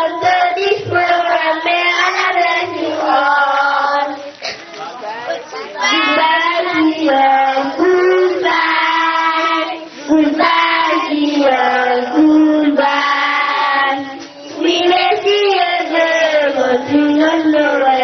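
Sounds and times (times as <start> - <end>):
girl singing into microphone: 0.0 - 4.6, 5.8 - 18.0.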